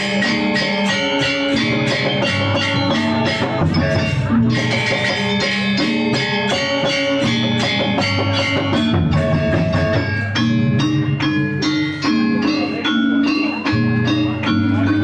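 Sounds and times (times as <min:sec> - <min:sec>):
drums: 0:00.0 - 0:15.0
metallophones struck: 0:00.0 - 0:15.0.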